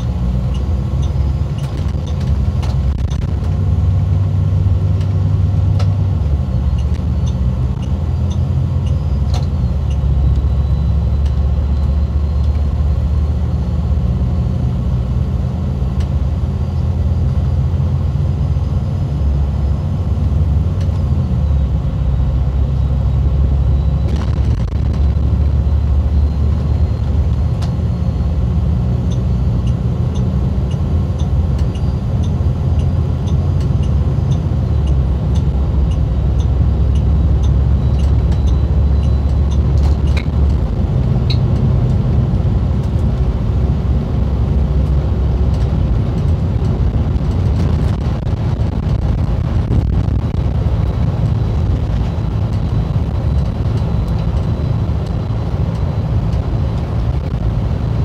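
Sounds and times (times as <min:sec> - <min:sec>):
coach engine and road drone: 0:00.0 - 0:58.0.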